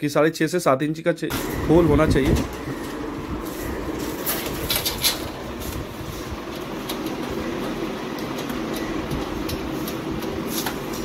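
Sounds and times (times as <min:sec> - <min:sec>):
steady background hum: 0:01.3 - 0:11.0.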